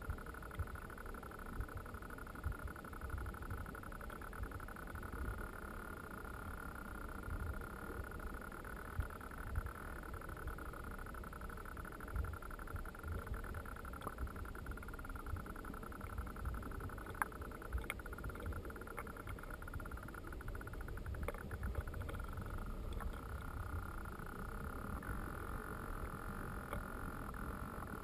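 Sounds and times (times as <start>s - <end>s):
faint clicks: 0.0s - 28.0s
thin whine: 0.0s - 28.0s
underwater moving water rumble: 0.0s - 28.0s.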